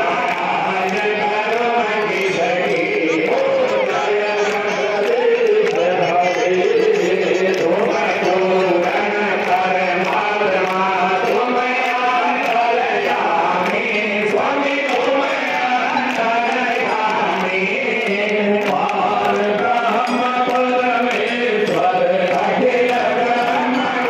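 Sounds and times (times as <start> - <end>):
crowd chanting: 0.0 - 24.0.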